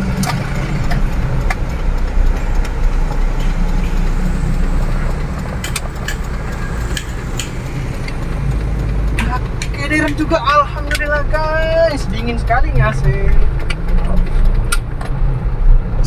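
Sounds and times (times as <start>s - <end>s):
scattered clicks: 0.0s - 15.2s
truck diesel engine rumbling: 0.0s - 16.0s.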